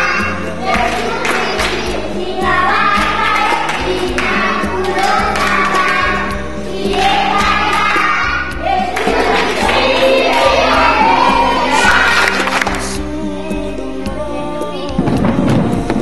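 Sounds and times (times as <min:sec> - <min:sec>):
children singing together: 0:00.0 - 0:15.2
musical accompaniment with bass line: 0:00.0 - 0:16.0.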